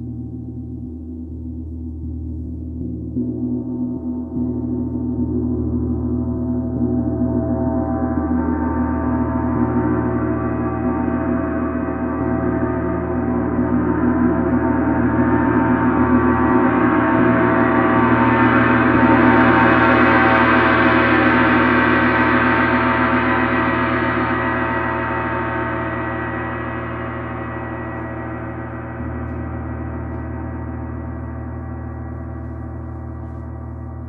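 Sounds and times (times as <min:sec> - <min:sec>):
gong ringing: 0:06.2 - 0:34.0.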